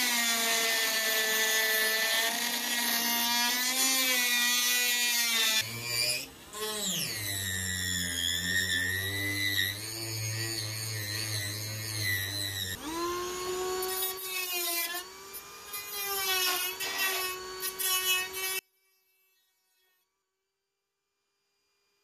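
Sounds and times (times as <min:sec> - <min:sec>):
rotary tool cutting wood: 0:00.0 - 0:19.9.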